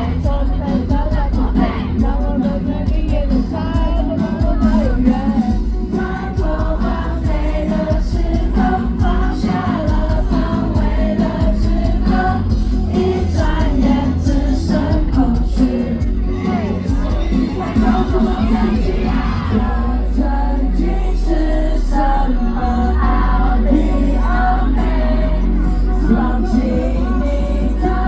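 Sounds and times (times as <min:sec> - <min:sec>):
live pop band with singing: 0:00.0 - 0:28.0.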